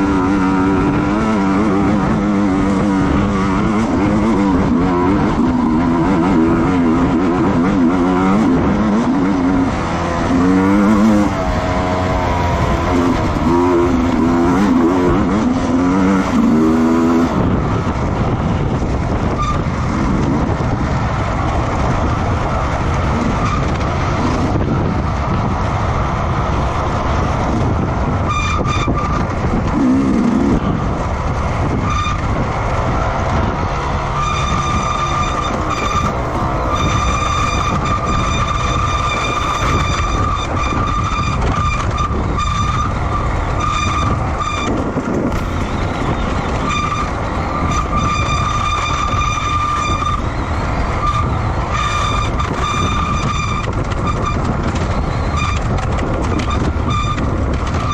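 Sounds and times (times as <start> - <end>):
motorcycle engines rumbling: 0.0 - 57.9
wind noise: 0.0 - 57.9.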